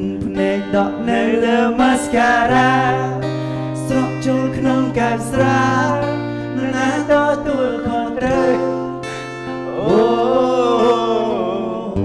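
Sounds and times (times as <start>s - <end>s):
acoustic guitar: 0.0s - 12.0s
person singing: 0.0s - 12.0s.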